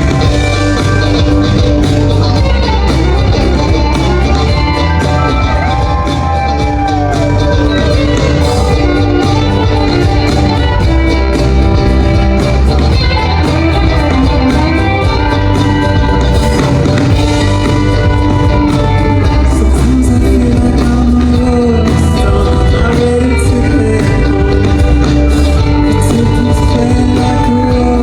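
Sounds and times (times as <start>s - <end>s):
guitar: 0.0s - 28.0s
live rock band playing: 0.0s - 28.0s.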